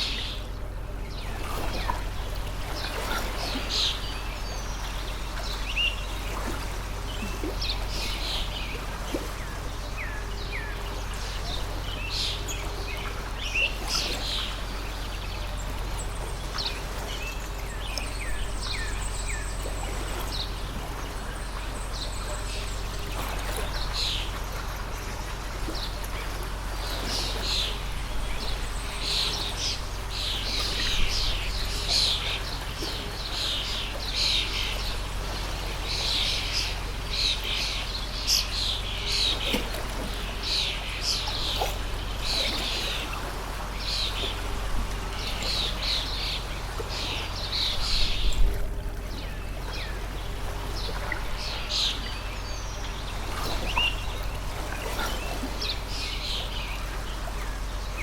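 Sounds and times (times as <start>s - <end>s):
birds chirping: 0.0s - 58.0s
water stream flowing: 0.0s - 58.0s.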